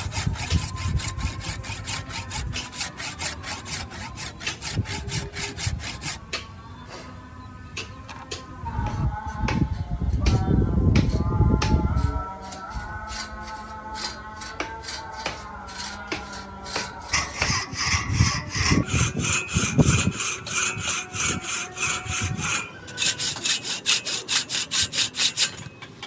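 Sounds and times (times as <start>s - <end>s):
handsaw cutting wood: 0.0s - 6.2s, 11.0s - 25.8s.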